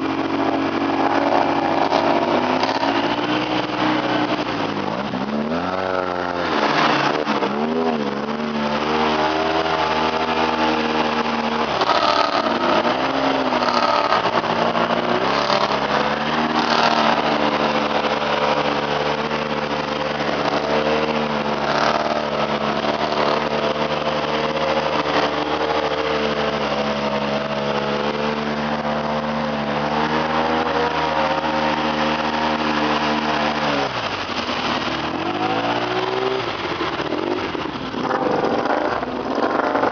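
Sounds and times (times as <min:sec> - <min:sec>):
atv engine revving under load: 0:00.0 - 0:39.9.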